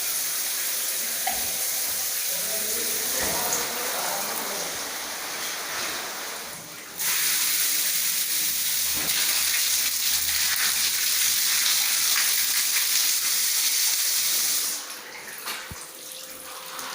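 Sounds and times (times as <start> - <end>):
shower water spraying: 0.0 - 14.9.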